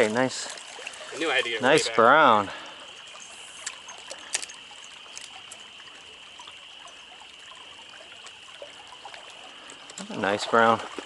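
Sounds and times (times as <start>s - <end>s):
stream water trickling: 0.0s - 11.0s.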